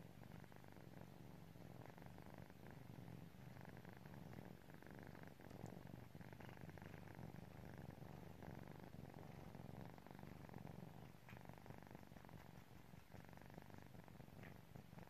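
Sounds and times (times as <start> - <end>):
kittens purring: 0.0 - 15.0.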